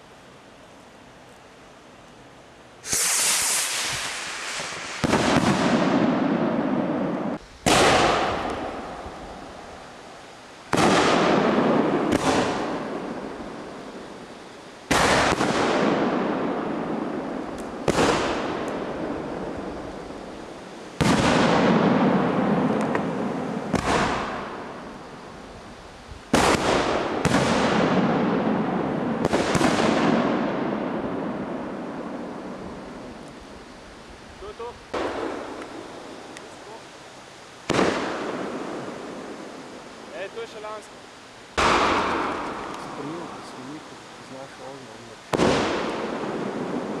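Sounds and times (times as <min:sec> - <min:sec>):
fireworks bursting with echo: 0:02.8 - 0:47.0.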